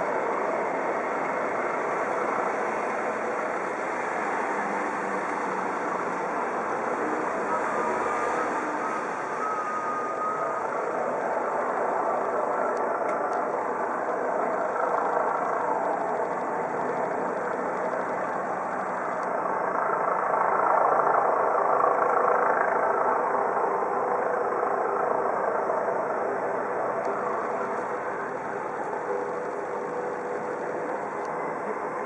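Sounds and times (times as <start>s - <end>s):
vehicle engine noise: 0.0s - 32.0s.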